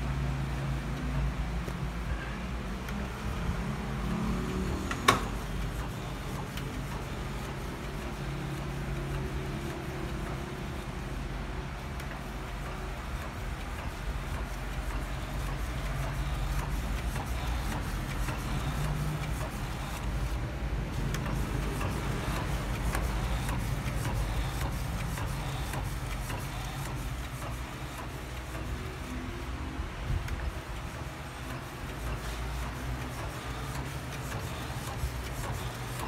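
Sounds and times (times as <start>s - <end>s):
inkjet printer printing: 0.0s - 36.0s.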